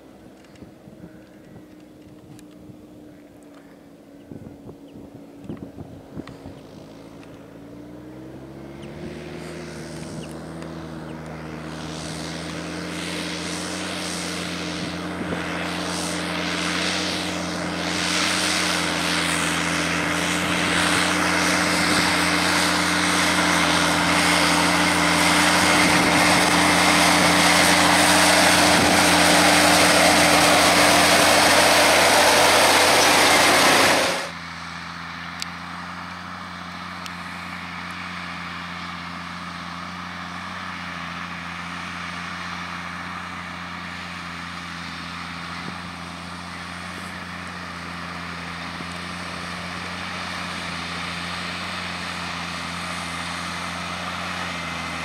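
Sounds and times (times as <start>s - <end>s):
tractor diesel engine under load: 5.1s - 55.0s.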